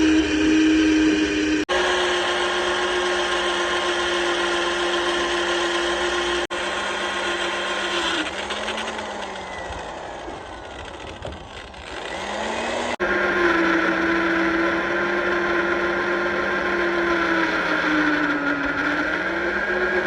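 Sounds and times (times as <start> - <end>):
power tool motor humming: 0.0 - 20.0.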